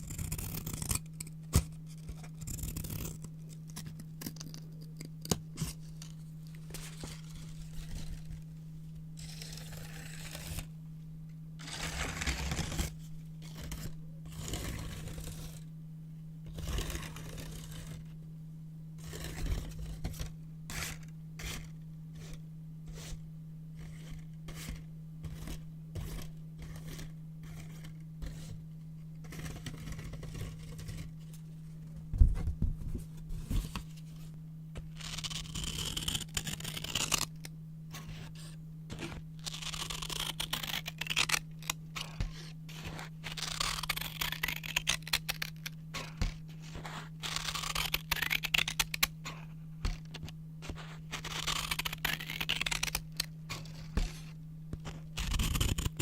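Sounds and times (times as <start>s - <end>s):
scissors cutting paper: 0.0s - 8.3s, 9.2s - 10.7s, 11.6s - 15.6s, 16.5s - 18.0s, 19.0s - 23.2s, 23.8s - 28.6s, 29.2s - 31.1s, 34.9s - 56.0s
steady low hum: 0.0s - 56.0s.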